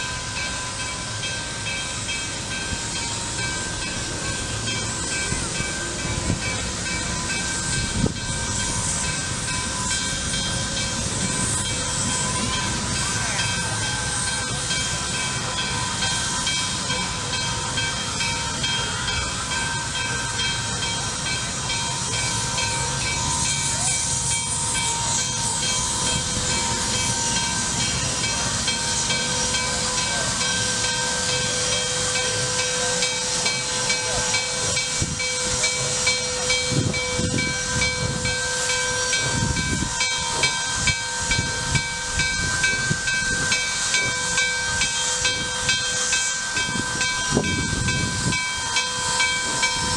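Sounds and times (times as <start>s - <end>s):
locomotive bell ringing: 0.0s - 49.9s
steam hissing: 0.0s - 49.9s
steam locomotive exhaust chuffs: 0.0s - 49.9s.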